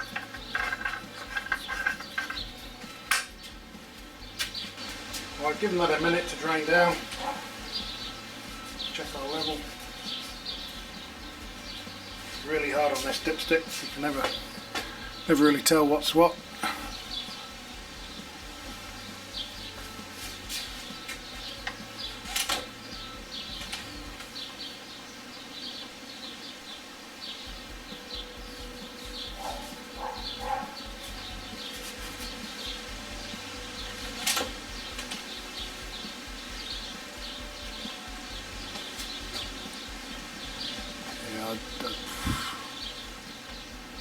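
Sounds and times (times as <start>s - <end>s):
birds chirping: 0.0s - 44.0s
insects chirping: 0.0s - 44.0s.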